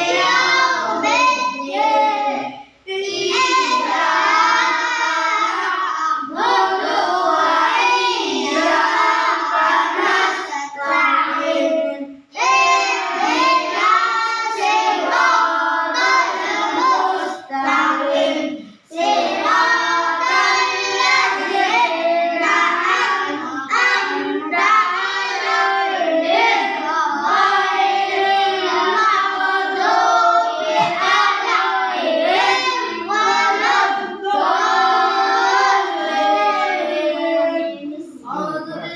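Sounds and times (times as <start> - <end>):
children chanting together: 0.0 - 38.9.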